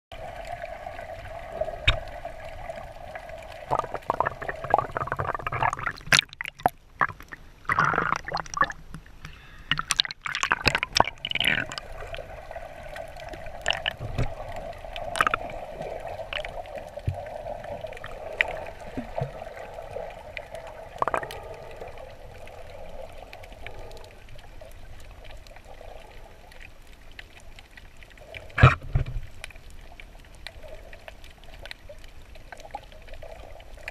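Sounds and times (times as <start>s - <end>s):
underwater gurgling and bubbling: 0.1s - 33.9s
clicking underwater: 1.7s - 12.3s, 12.9s - 33.9s.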